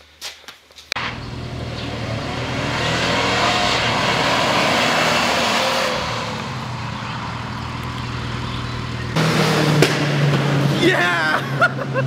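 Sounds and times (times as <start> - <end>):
car driving past: 1.0 - 10.8.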